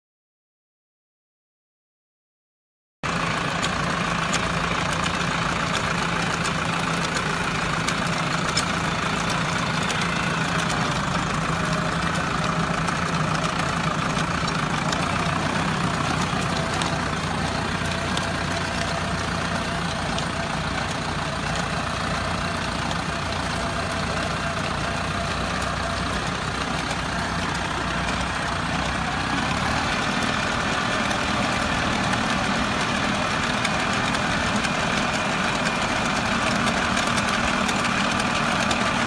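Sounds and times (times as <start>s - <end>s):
tractor diesel engine running: 3.0s - 39.0s.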